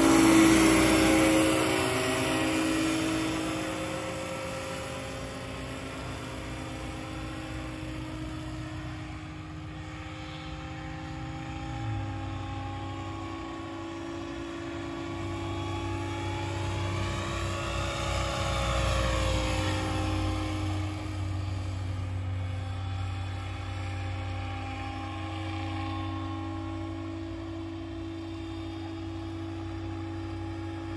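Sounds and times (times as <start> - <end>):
model helicopter motor whine: 0.0 - 30.9.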